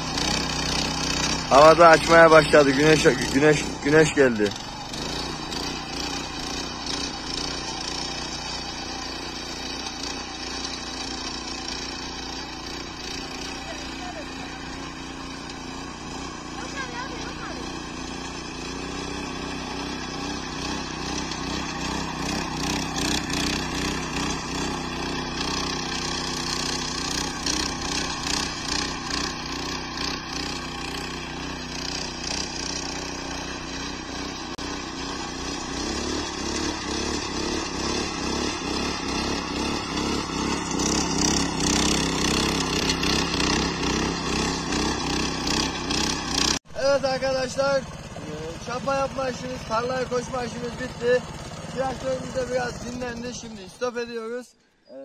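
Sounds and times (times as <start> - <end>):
tiller engine running: 0.0 - 55.0.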